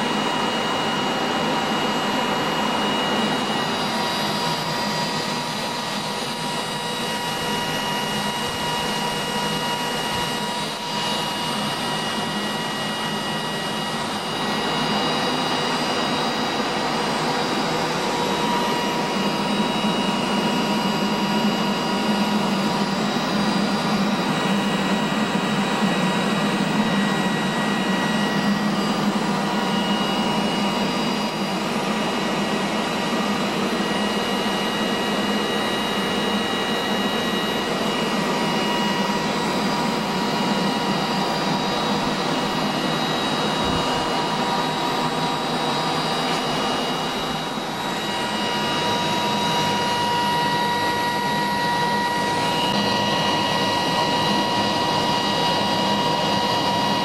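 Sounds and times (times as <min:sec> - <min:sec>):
high steady whine: 0:00.0 - 0:57.0.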